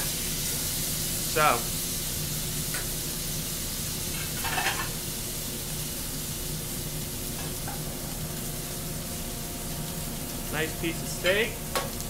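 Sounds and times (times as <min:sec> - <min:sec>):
steak sizzling in a pan: 0:00.0 - 0:12.0.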